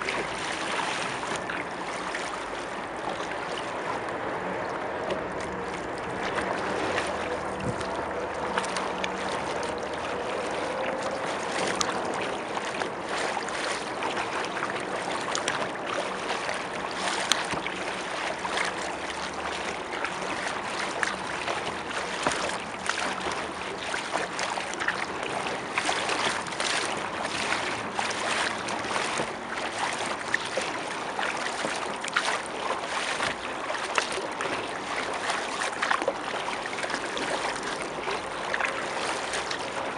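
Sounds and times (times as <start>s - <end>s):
paddle splashes and drips: 0.0s - 39.9s
water lapping against hull: 0.0s - 39.9s.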